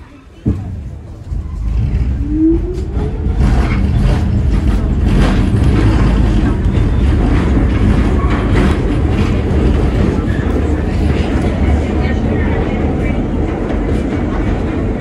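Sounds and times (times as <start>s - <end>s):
subway train whine: 0.0s - 15.0s
train rumble: 0.0s - 15.0s
wheels clacking on rails: 0.0s - 15.0s.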